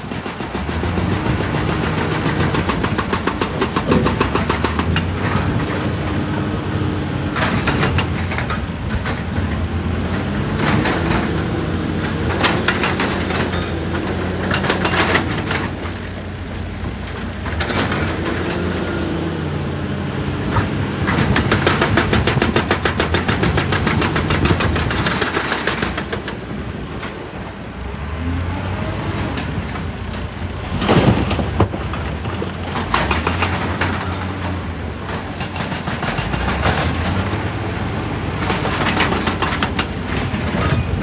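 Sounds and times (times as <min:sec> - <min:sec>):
rocks clattering on steel: 0:00.0 - 0:19.7, 0:20.4 - 0:27.4, 0:29.3 - 0:37.6
excavator diesel engine running: 0:00.0 - 0:41.0.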